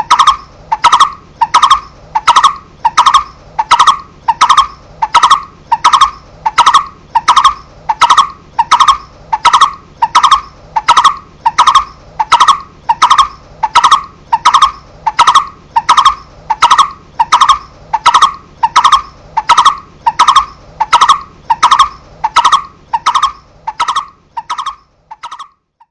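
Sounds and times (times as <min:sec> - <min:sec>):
barbet calling: 0:00.0 - 0:25.9.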